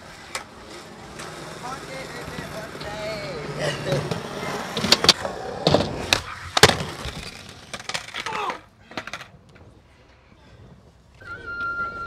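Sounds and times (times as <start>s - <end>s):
skateboard clattering on concrete: 0.0s - 9.7s.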